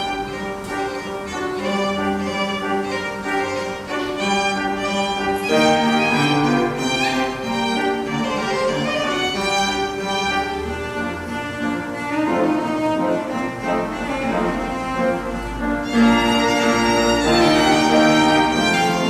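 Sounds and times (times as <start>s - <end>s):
cello bowed notes: 0.0s - 19.0s
piano: 0.0s - 19.0s
violin bowed notes: 0.0s - 19.0s.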